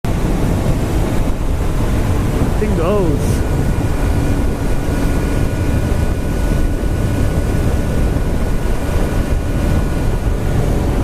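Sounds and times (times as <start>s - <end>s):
motorcycle engine running: 0.1s - 11.0s
wind rushing over microphone: 0.1s - 11.0s.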